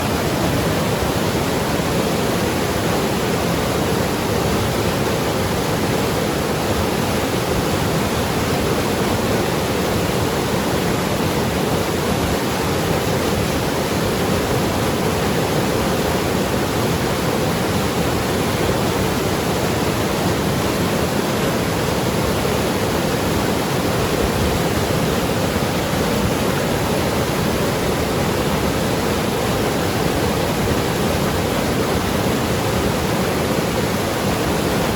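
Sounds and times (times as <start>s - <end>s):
river rushing over rocks: 0.0s - 34.9s.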